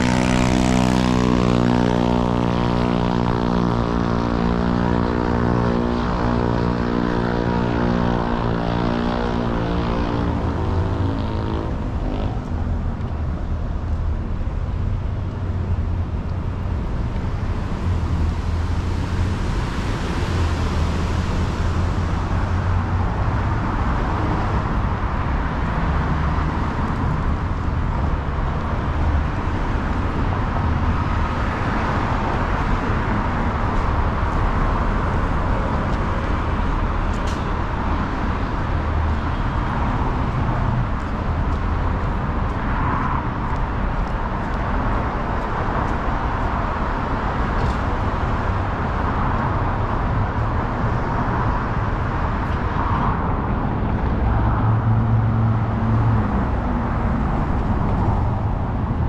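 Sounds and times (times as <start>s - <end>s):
rumble of passing traffic: 0.0s - 59.0s.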